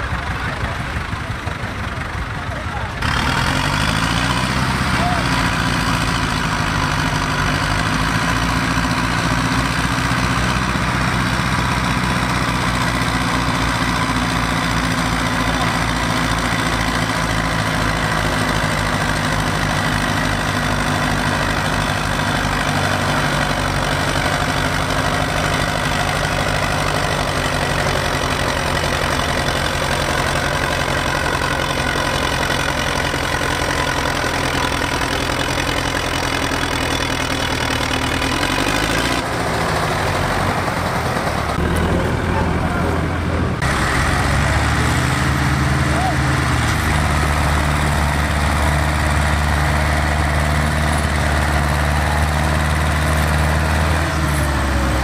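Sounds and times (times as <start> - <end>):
tractor diesel engines chugging: 0.0 - 55.0.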